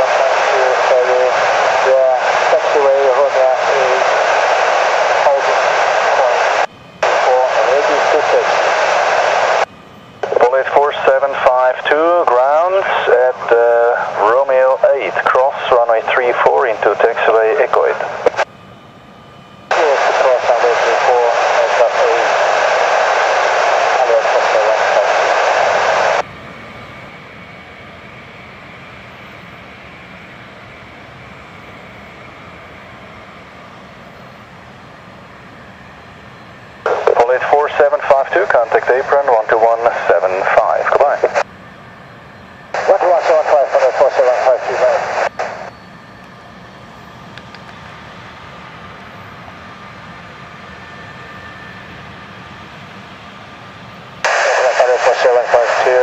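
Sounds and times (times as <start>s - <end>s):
distant jet engines taxiing: 0.0s - 56.0s.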